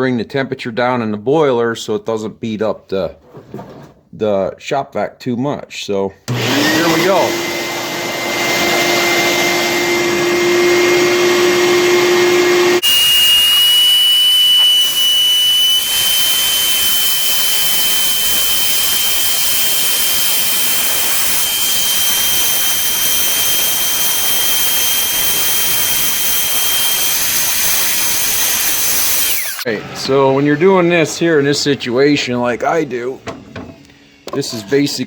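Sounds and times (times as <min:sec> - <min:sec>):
shop vac whine: 0:06.3 - 0:34.9.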